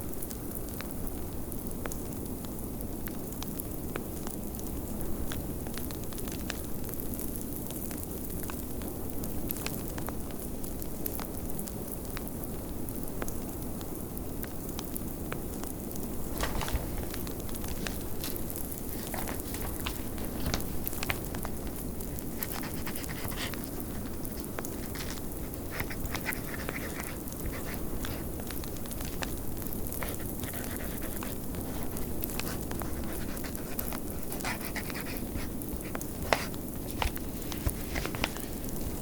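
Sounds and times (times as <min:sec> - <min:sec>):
fireplace crackling and popping: 0:00.1 - 0:39.0.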